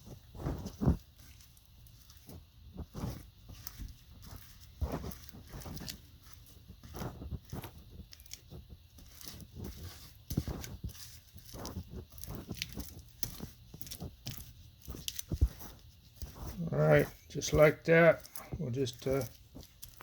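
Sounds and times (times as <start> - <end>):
scratchy brush strokes: 0.0 - 20.0.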